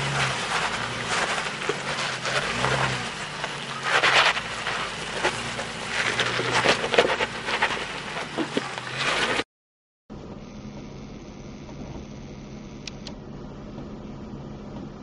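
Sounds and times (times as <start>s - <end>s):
engine running under load: 0.0s - 9.5s, 10.1s - 15.0s.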